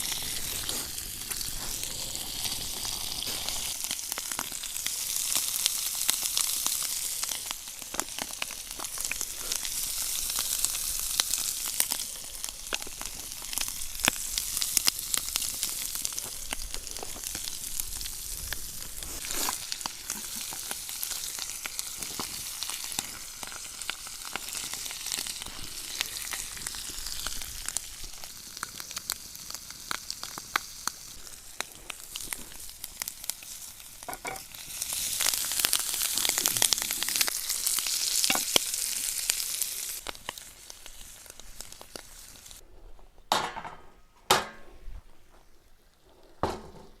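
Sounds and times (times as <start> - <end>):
food sizzling in a pan: 0.0 - 42.6.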